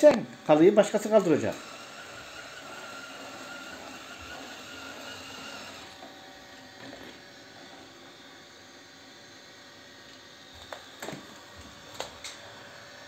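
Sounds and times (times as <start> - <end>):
robot vacuum motor and fan hum: 0.0 - 13.0.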